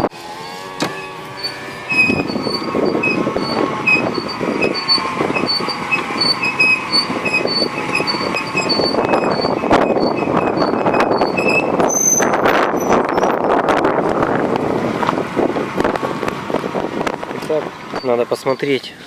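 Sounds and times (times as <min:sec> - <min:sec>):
brake pad squeaking: 0:00.0 - 0:13.6, 0:15.8 - 0:18.9
car rolling rumble: 0:00.0 - 0:19.0.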